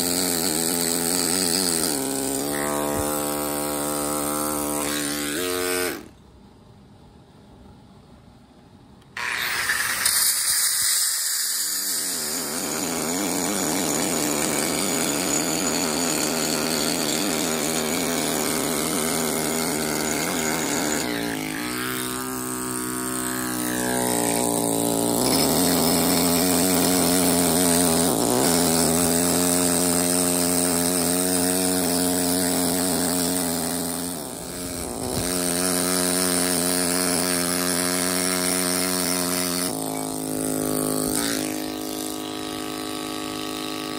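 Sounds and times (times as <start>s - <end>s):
pneumatic hammer cutting stone: 0.0s - 6.2s, 9.1s - 43.9s.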